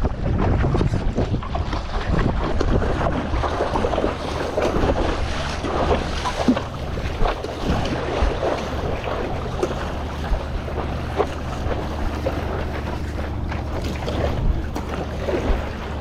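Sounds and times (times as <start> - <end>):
water splashing around paddleboard: 0.0 - 16.0
wind buffeting microphone: 0.0 - 16.0.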